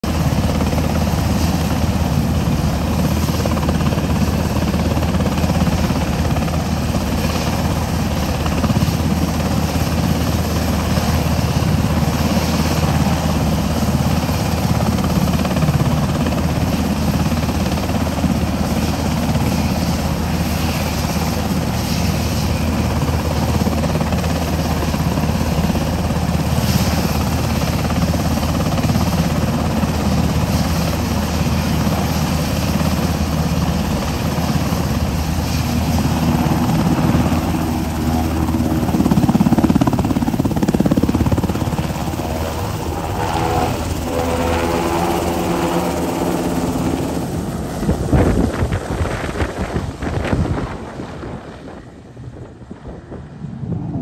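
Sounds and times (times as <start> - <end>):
helicopter engines and rotor: 0.0 - 54.0.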